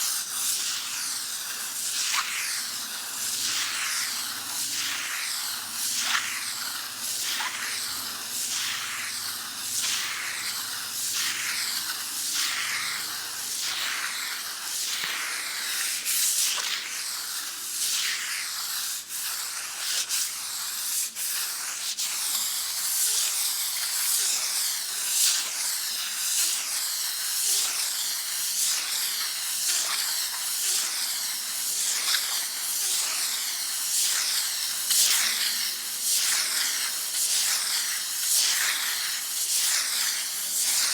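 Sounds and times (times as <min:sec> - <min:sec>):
sandpaper rubbing on a wall: 0:00.0 - 0:40.9.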